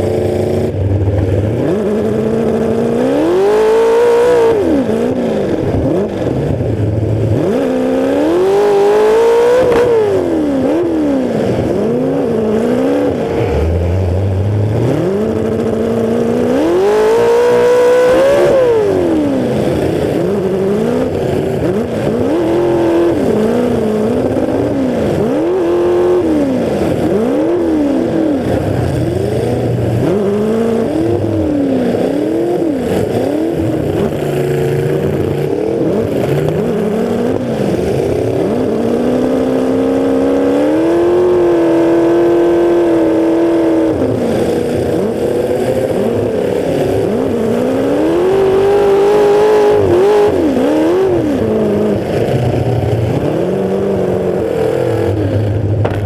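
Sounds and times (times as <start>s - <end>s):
car engine revving hard: 0.0s - 56.0s.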